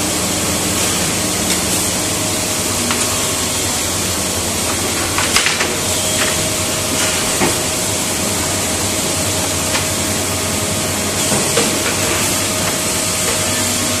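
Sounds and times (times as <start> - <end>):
loud machine noise: 0.0 - 14.0.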